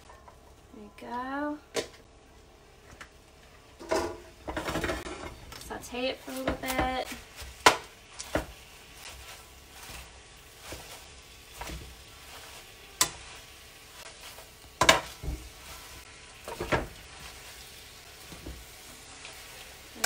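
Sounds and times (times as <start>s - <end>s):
spinach sizzling in oil: 3.2s - 20.0s.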